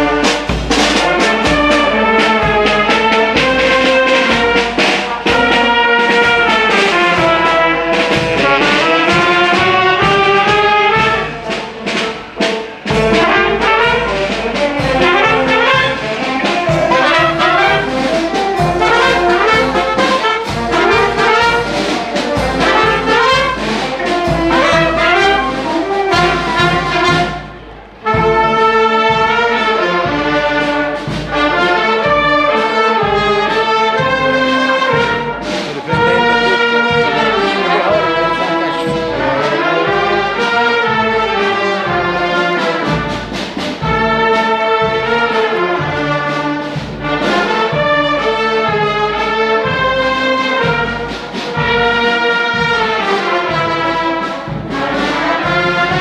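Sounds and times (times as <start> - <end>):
marching brass band playing: 0.0 - 56.0.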